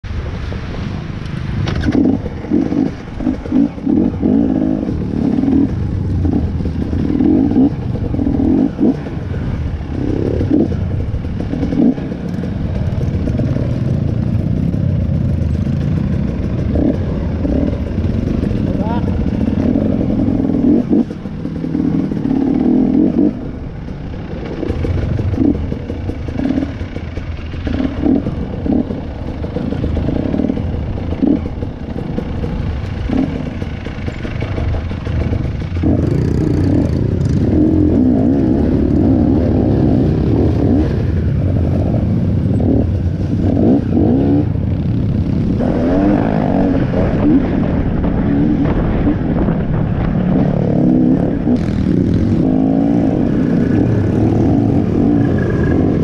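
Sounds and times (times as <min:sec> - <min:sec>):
motorcycle engine revving: 0:00.0 - 0:56.0
bike rattling over bumps: 0:00.1 - 0:56.0.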